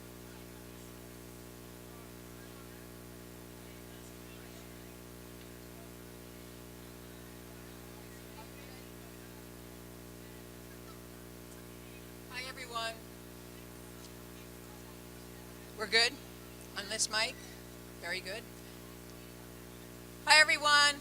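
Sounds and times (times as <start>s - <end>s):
electrical mains hum: 0.0s - 21.0s
faint crowd chatter: 0.0s - 21.0s.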